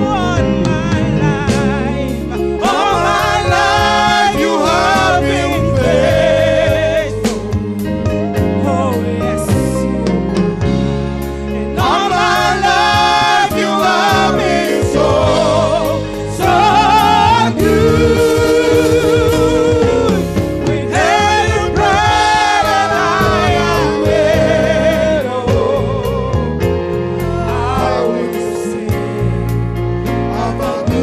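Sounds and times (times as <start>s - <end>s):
band with steady beat: 0.0s - 31.0s
people singing gospel-style song: 0.0s - 31.0s.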